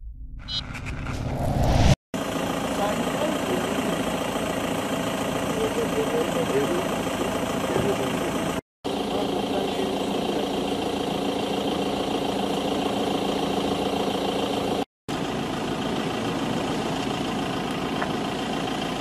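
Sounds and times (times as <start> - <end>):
engine idling with low hum: 2.2 - 19.0.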